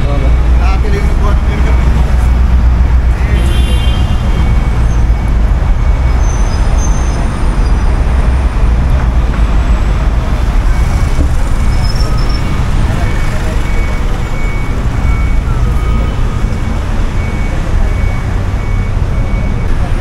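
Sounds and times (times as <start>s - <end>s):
cars passing on city road: 0.0s - 20.0s.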